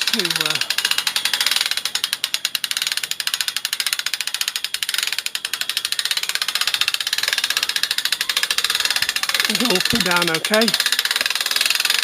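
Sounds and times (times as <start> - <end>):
winch clattering rapidly: 0.0 - 12.0.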